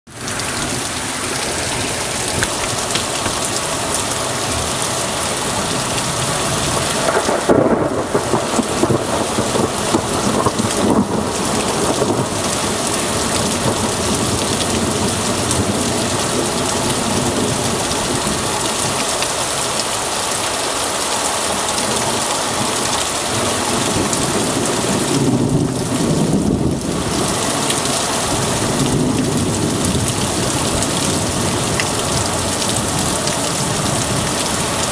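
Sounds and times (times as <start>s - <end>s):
heavy rain hissing: 0.1s - 34.9s
thunder rumbling: 0.4s - 19.1s, 21.5s - 34.9s.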